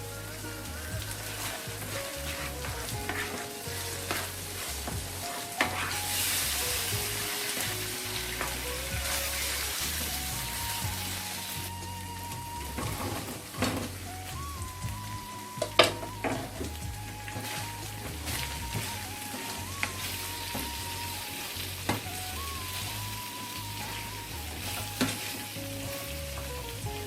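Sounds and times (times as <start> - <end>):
food sizzling in a hot pan: 0.0 - 27.0.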